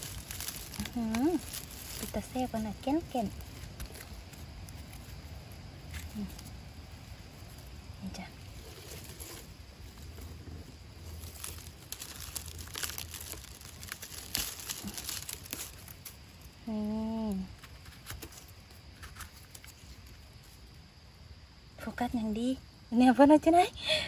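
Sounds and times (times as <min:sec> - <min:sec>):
dry leaves and twigs crackling: 0:00.0 - 0:21.5.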